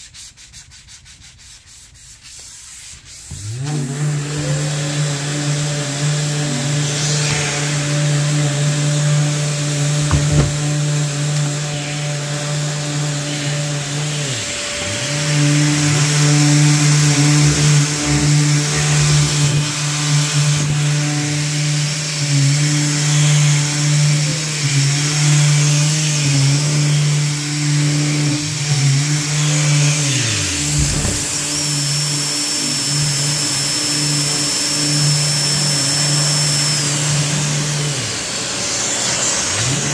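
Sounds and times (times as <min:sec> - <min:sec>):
electric sander scuffing wood: 0:01.7 - 0:39.9
shop vacuum humming: 0:03.2 - 0:39.9.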